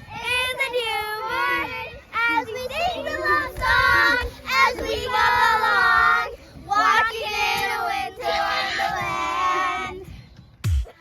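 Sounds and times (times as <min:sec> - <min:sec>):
child singing: 0:00.1 - 0:10.1.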